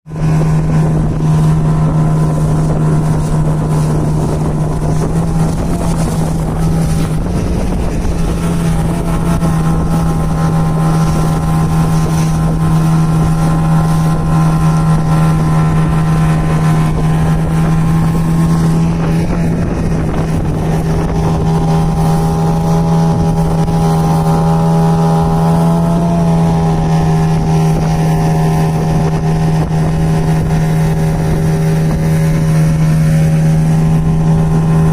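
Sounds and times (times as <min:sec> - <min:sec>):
outboard motor droning: 0:00.0 - 0:34.9.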